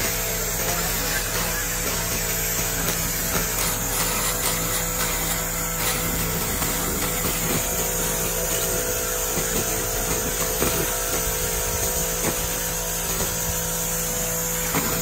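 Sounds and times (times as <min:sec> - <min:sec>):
laser machine hum and hiss: 0:00.0 - 0:15.0.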